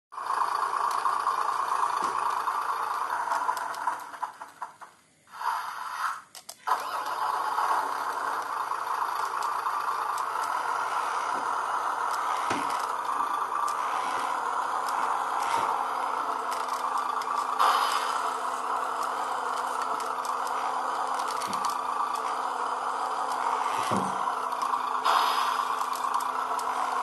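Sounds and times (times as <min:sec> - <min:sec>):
toy truck motor whining: 0:00.2 - 0:27.0.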